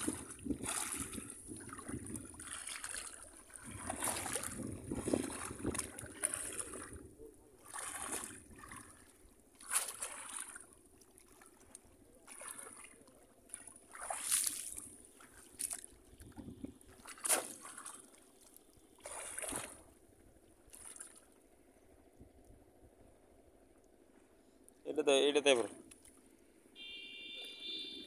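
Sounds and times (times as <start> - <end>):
water splashing and sloshing: 0.0 - 22.2, 25.3 - 26.7.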